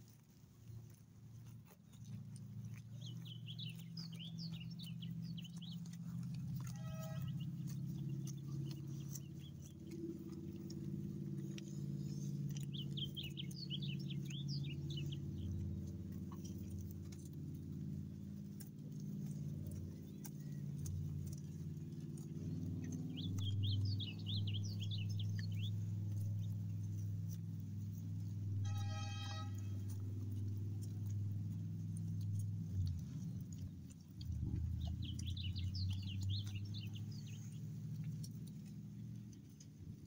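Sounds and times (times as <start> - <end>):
faint crunches: 0.0 - 24.0, 24.6 - 40.0
dog chewing fruit: 0.0 - 40.0
steady low hum: 2.2 - 40.0
birds twittering: 2.6 - 39.6.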